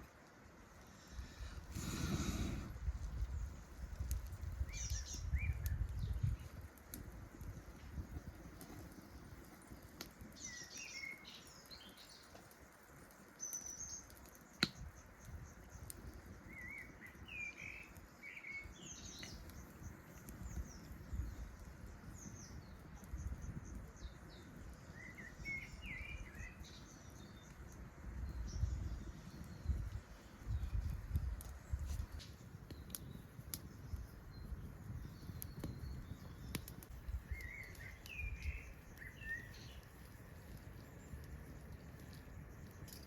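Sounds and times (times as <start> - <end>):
small birds chirping: 0.9 - 43.0.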